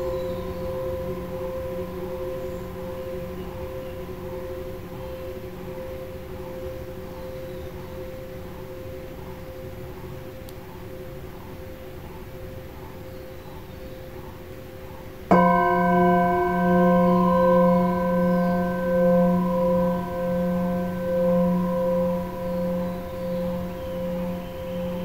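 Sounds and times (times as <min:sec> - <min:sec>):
singing bowl ringing: 0:00.0 - 0:12.5, 0:15.3 - 0:25.0.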